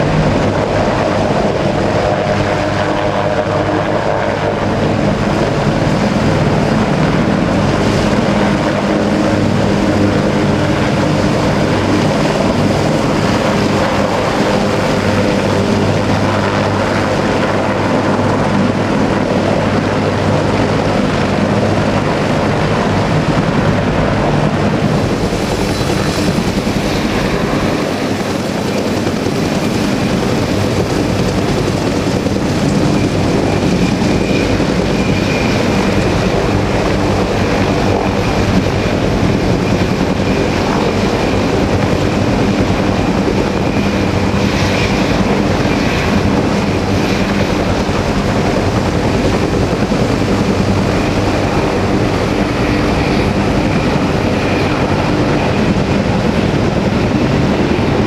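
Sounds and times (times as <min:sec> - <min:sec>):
helicopter rotor and turbine noise: 0:00.0 - 0:58.0.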